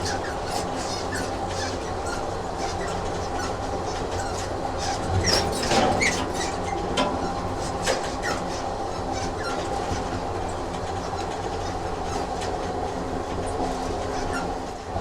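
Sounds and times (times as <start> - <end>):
train running along track: 0.0 - 15.0
train wheel squeals: 0.0 - 15.0.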